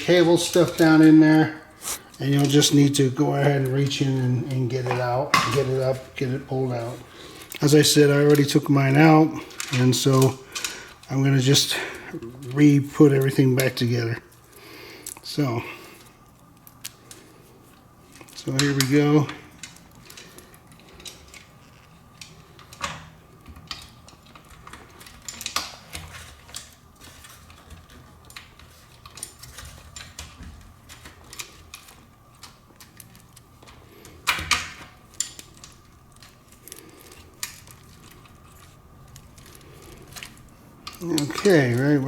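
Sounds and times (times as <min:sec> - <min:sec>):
parts clattering: 0:00.0 - 0:42.0
small parts clicking and rattling: 0:00.0 - 0:42.0.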